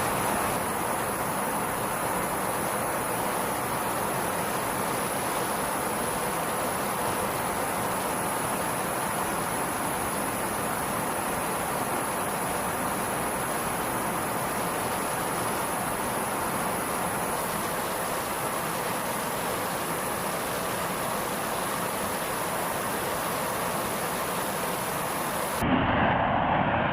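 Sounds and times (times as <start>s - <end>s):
jet engine roaring with whine: 0.0s - 26.9s.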